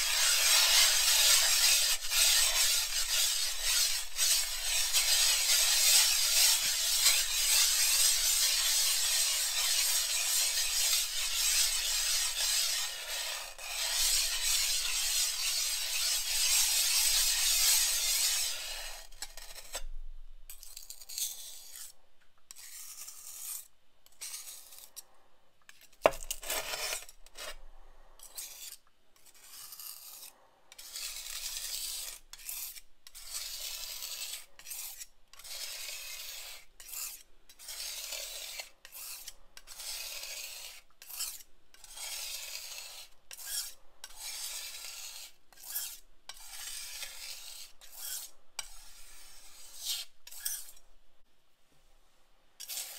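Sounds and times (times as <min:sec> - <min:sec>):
glass muller grinding pigment: 0:00.0 - 0:19.8, 0:26.0 - 0:27.6, 0:29.3 - 0:50.8.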